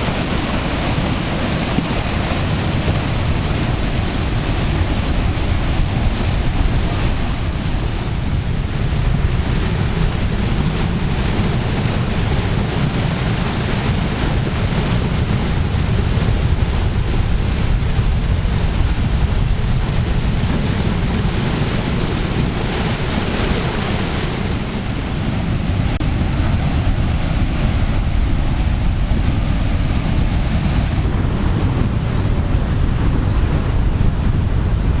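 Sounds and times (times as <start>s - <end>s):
water rushing along canal: 0.0s - 35.0s.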